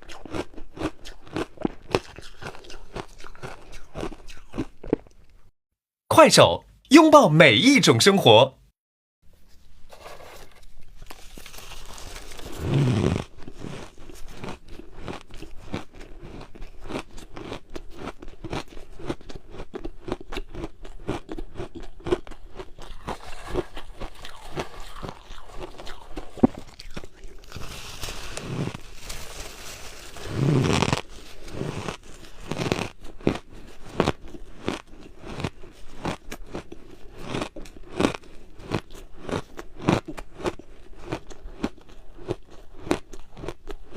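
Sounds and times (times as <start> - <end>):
ice being chewed: 0.0 - 5.4, 9.9 - 43.9.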